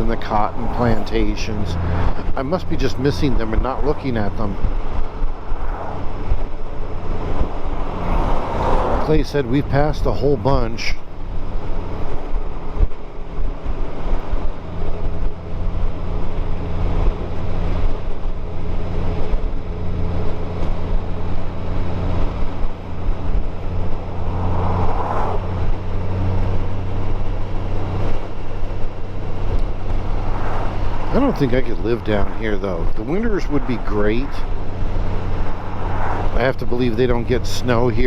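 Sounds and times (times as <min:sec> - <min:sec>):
motorcycle engine cruising: 0:00.0 - 0:38.0
wind and road noise: 0:00.0 - 0:38.0.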